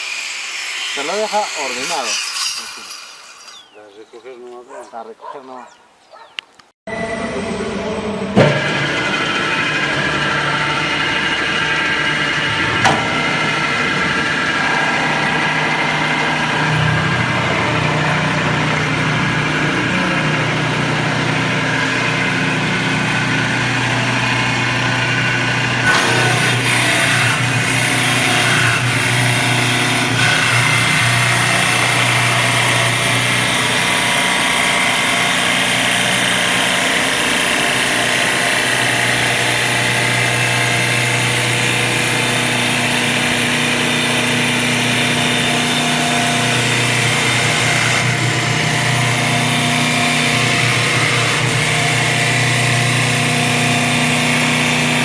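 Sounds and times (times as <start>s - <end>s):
engine running: 6.9s - 55.0s.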